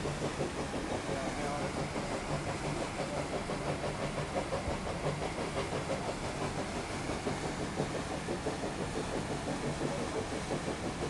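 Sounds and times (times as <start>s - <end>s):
steam engine and paddle wheels: 0.0s - 11.0s.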